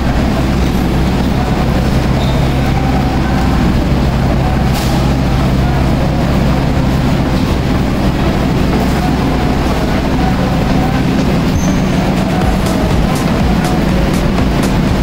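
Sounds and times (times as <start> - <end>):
diesel train engine hum: 0.0 - 15.0.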